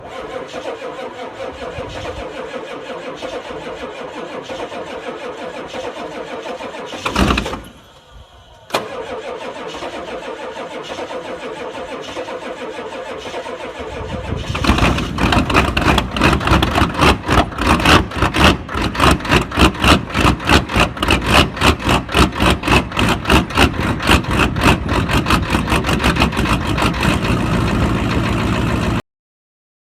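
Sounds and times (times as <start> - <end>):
diesel truck engine starting: 0.0 - 29.0
loud burst: 0.8 - 28.9.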